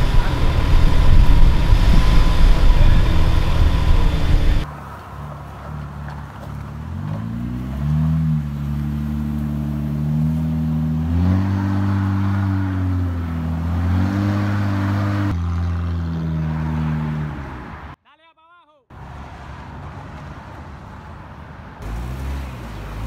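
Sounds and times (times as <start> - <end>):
off-road vehicle engine climbing: 0.0 - 18.0, 19.1 - 23.0
second vehicle engine climbing: 0.0 - 18.0, 21.8 - 23.0.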